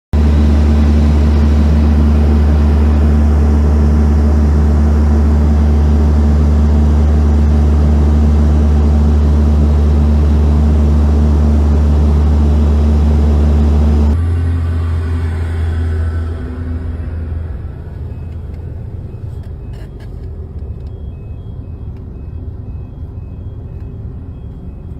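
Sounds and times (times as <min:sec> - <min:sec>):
airliner engines droning: 0:00.2 - 0:24.9
car rumble: 0:00.2 - 0:24.9.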